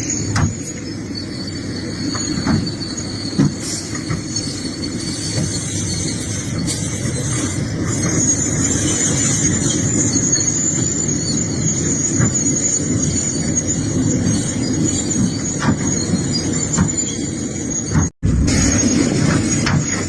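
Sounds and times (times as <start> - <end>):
high-pitched squeal: 0.0 - 20.0.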